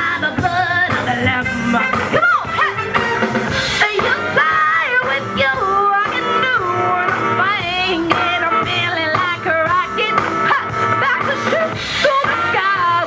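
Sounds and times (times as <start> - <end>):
loud band music: 0.0 - 13.0
woman singing: 0.0 - 13.0.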